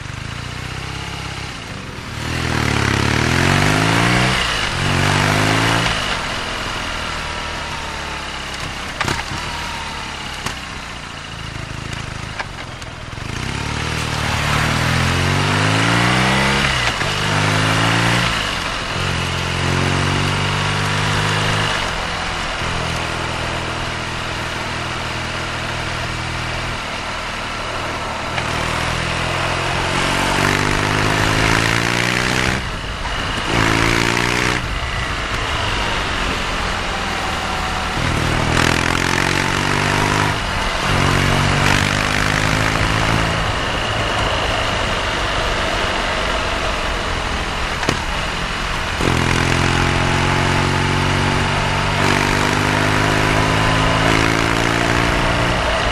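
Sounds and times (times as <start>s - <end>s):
motorcycle engine revving: 0.0s - 55.9s
wind and road noise: 0.0s - 55.9s.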